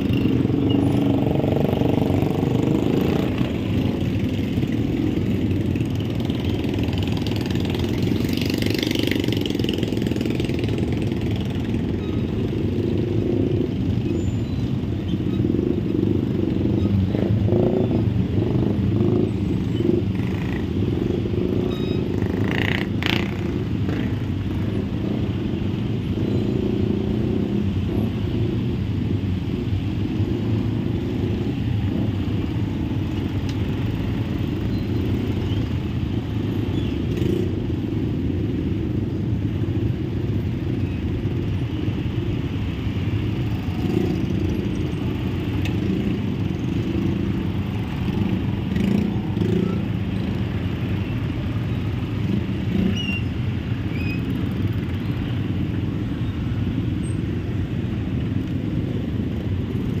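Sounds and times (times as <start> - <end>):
motorcycle engines idling: 0.0 - 60.0.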